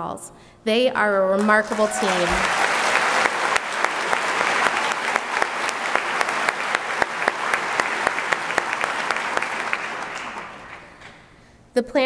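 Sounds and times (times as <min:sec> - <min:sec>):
audience applauding: 0:01.4 - 0:11.2.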